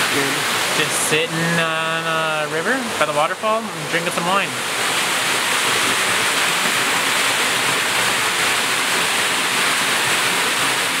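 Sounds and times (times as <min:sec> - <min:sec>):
waterfall and river rushing: 0:00.0 - 0:11.0.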